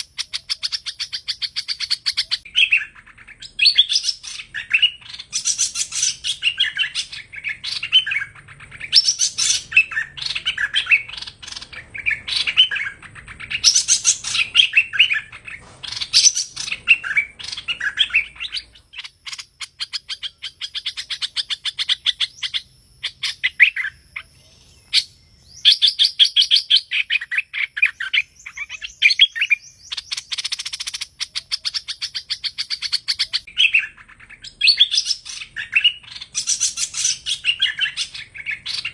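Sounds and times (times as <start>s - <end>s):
songbird chirping phrases: 0.0s - 38.9s.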